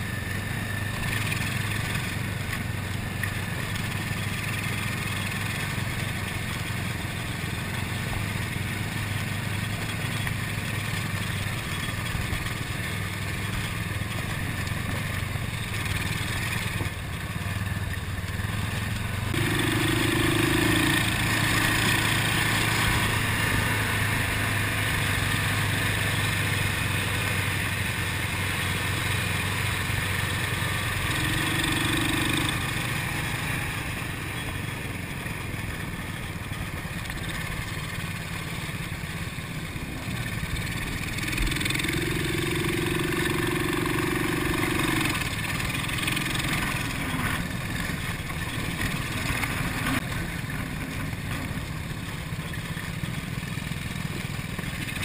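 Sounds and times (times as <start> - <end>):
atv engine running: 0.0 - 55.0
wind: 0.0 - 55.0.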